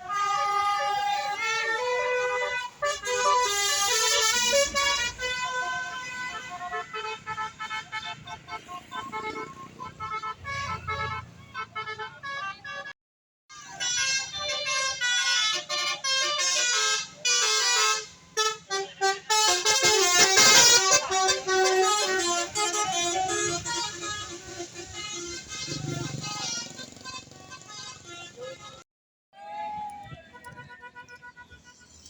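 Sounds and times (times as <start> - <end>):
bus horn melody: 0.0 - 28.8, 30.3 - 32.0.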